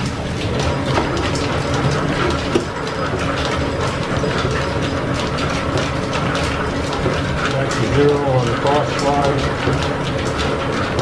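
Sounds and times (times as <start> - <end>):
lathe gearing clatter: 0.0 - 11.0.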